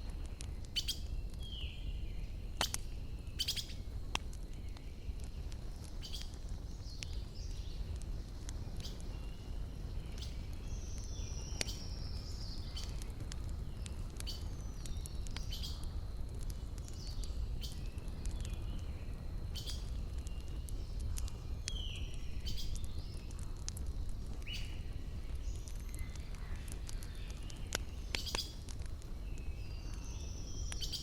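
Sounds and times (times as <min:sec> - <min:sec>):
forest birds chirping: 0:00.0 - 0:31.0
wood fire crackling: 0:00.0 - 0:31.0.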